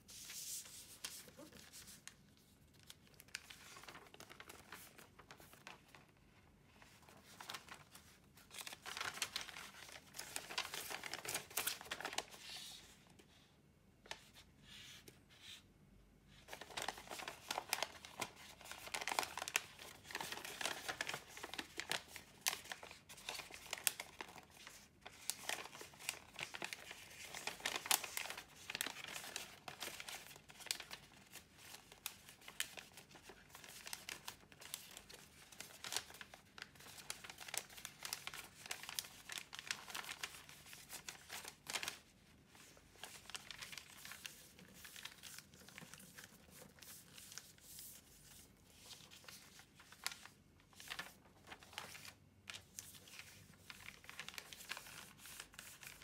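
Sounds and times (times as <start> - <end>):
paper crinkling and folding: 0.0 - 56.0.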